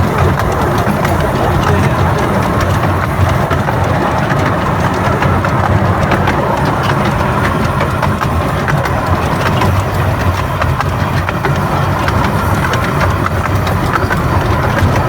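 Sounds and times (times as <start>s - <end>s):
train rumbling: 0.0s - 15.0s
wheel clicks and knocks: 0.0s - 15.0s.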